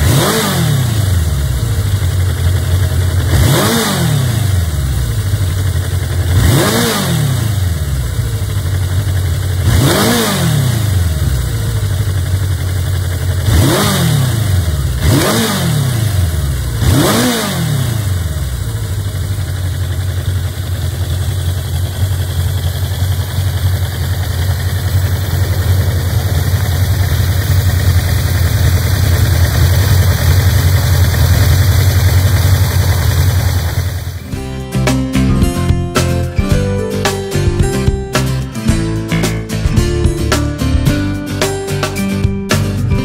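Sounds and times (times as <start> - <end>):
motorcycle engine revving and idling: 0.0 - 43.0.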